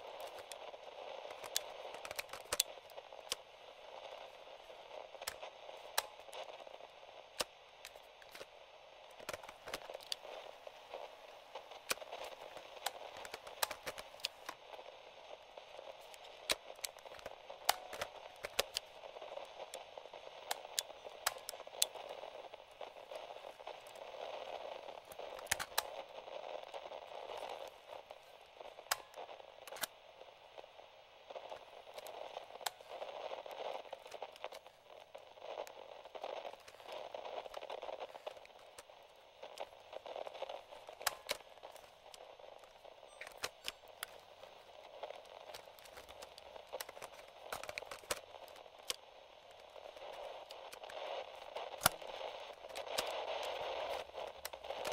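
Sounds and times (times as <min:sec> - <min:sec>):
radio crackles and pops: 0:00.0 - 0:54.9
radio static hiss: 0:00.0 - 0:54.9.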